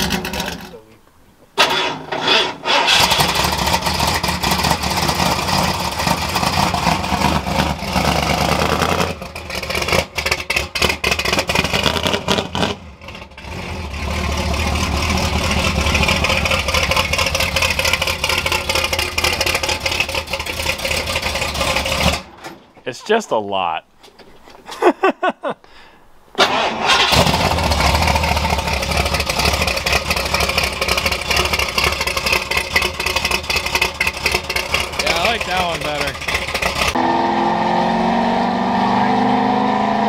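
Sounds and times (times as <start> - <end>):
car engine running: 2.9 - 22.3, 27.1 - 40.0.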